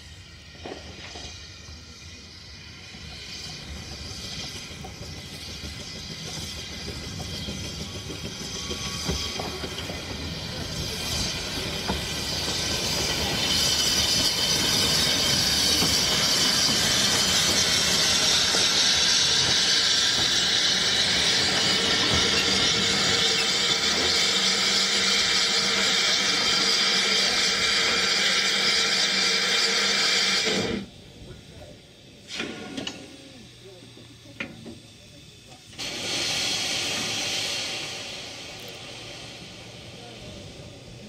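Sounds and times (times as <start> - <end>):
steam locomotive hissing: 0.0 - 41.0.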